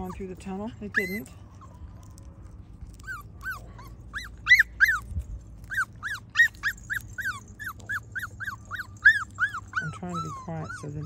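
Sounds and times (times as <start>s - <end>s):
puppies whining: 0.0s - 11.0s.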